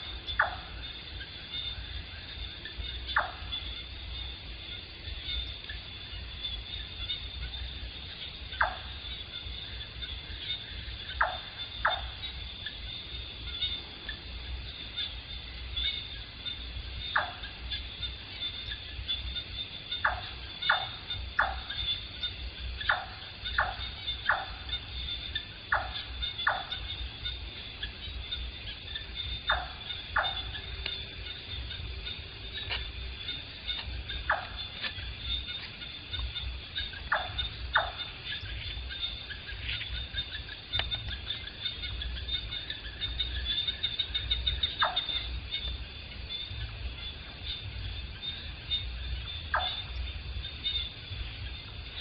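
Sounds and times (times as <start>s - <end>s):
high-pitched insect chorus: 0.0s - 52.0s
night bird calling: 0.0s - 52.0s.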